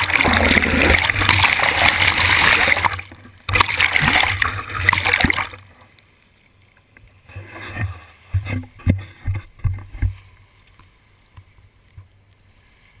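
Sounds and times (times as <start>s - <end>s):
water rushing along hull: 0.0s - 13.0s.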